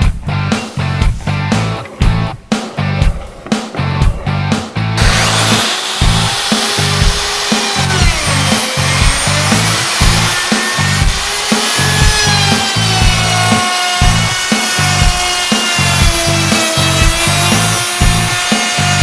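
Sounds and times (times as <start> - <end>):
rock music with steady beat: 0.0 - 19.0
hand router cutting wood: 1.3 - 19.0.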